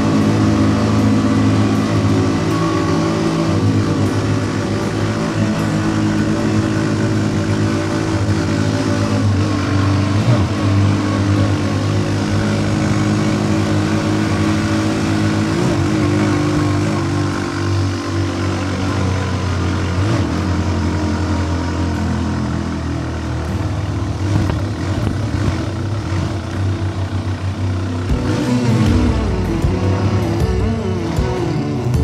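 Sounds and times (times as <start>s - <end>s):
engine pulling under load: 0.0s - 32.0s.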